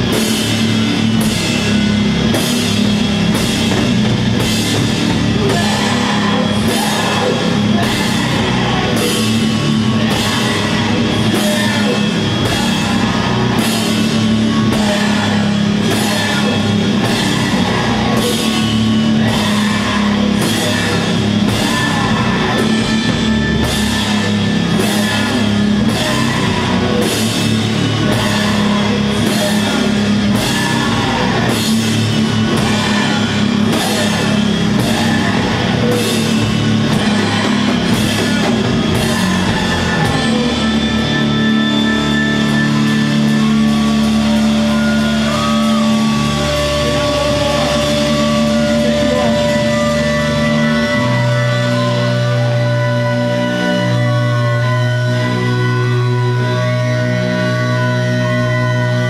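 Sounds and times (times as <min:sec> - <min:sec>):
doom metal band playing: 0:00.0 - 0:59.0.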